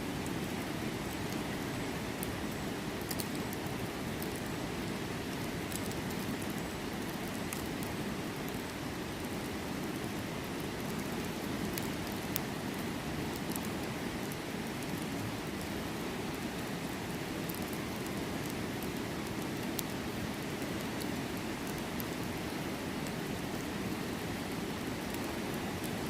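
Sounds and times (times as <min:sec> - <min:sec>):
campfire crackling and popping: 0:00.1 - 0:26.0.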